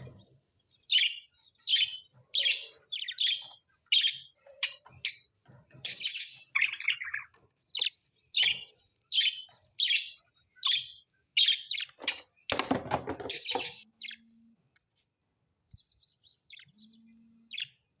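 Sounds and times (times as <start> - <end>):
parrots chirping: 0.0 - 14.3, 16.4 - 17.9.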